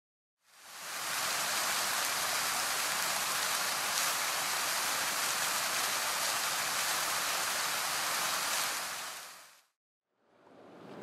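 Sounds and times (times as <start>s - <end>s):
fountain water splashing: 0.4s - 9.7s.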